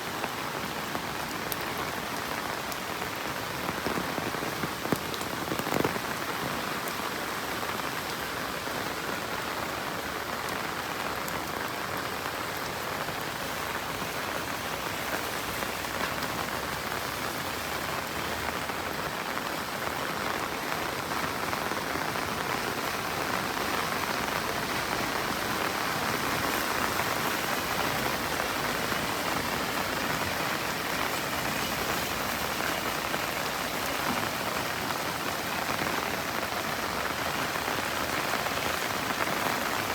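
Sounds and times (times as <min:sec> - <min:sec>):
steady rain on surfaces: 0:00.0 - 0:39.9.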